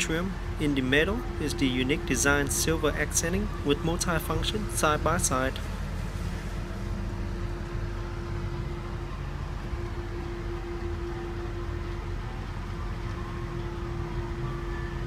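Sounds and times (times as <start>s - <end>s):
low rumble: 0.0s - 15.0s
mid-pitched hum: 0.0s - 15.0s.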